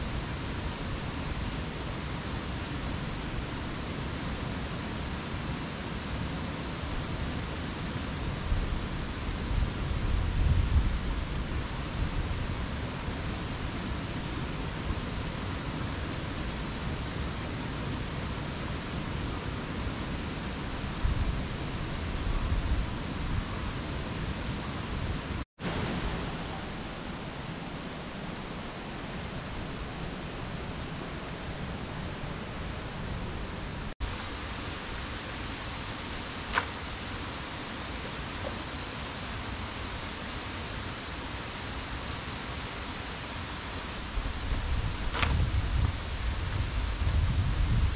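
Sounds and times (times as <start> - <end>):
rushing outdoor ambience: 0.0 - 47.9.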